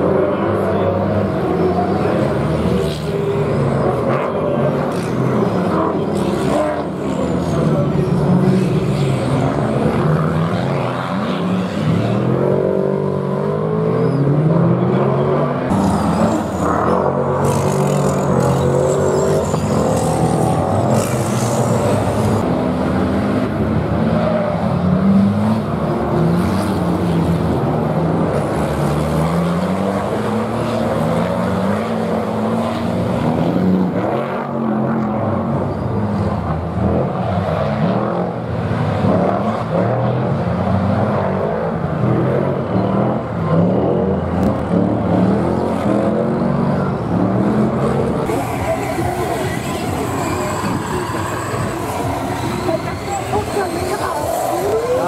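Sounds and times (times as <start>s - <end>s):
diesel truck engines revving: 0.0s - 55.0s.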